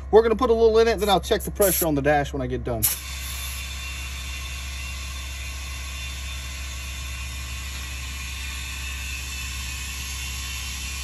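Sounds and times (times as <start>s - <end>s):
air compressor running: 0.0s - 2.1s, 2.8s - 11.0s.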